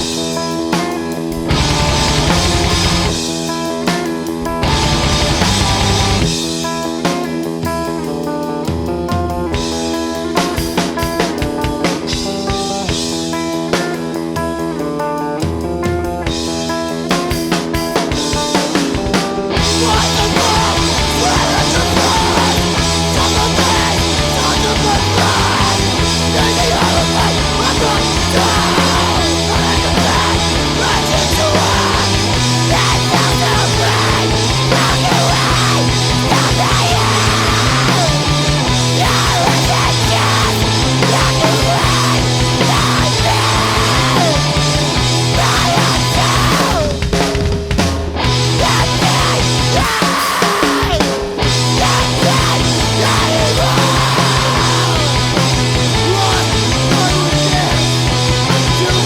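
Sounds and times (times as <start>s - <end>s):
rock band music: 0.0s - 59.0s.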